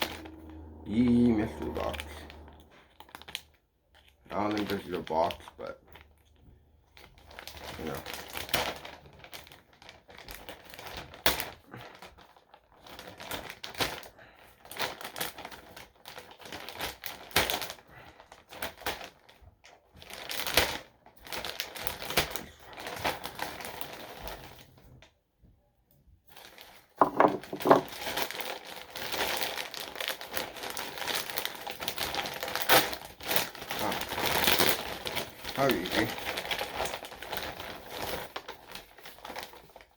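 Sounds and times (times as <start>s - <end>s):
package crinkling and rustling: 0.0s - 25.0s, 26.3s - 39.9s.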